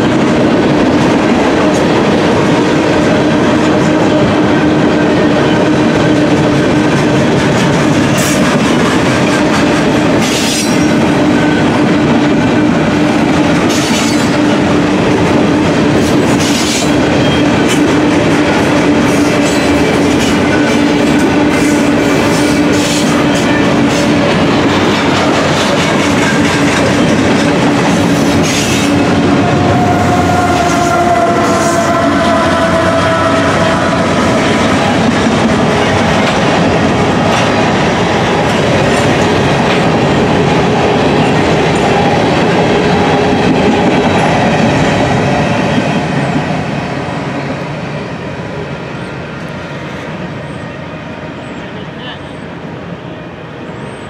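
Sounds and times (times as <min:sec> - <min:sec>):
train wheels clattering on rail: 0:00.0 - 0:51.6.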